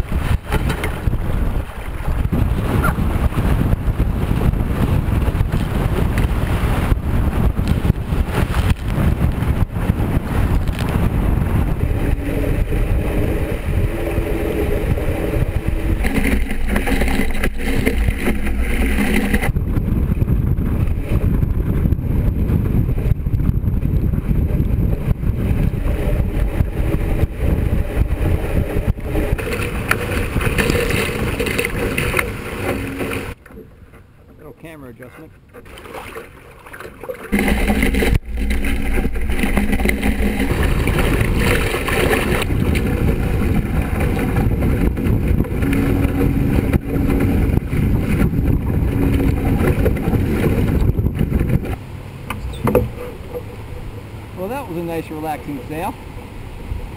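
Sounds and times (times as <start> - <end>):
water rushing past boat hull: 0.0 - 56.9
wind buffeting microphone: 0.0 - 56.9.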